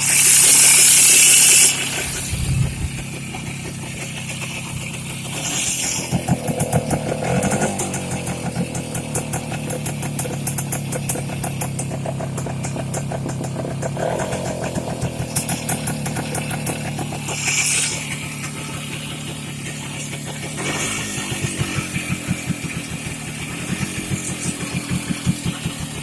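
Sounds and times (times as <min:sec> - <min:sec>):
two-stroke motorcycle engine revving: 0:00.0 - 0:26.0.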